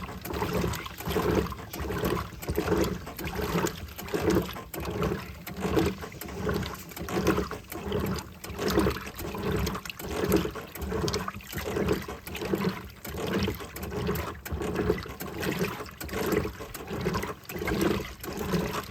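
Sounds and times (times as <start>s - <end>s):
washing machine sloshing water: 0.0s - 18.9s.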